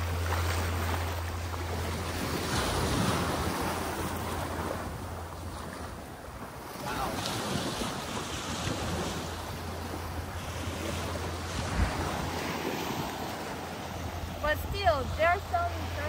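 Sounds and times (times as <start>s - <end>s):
small waves washing onto sand: 0.0s - 16.0s
wind rumbling on microphone: 0.0s - 16.0s.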